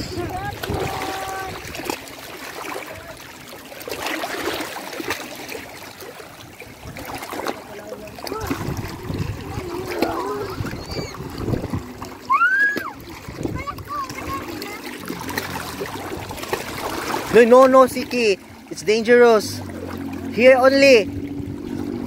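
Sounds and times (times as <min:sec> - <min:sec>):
seawater splashing around rocks: 0:00.0 - 0:22.0.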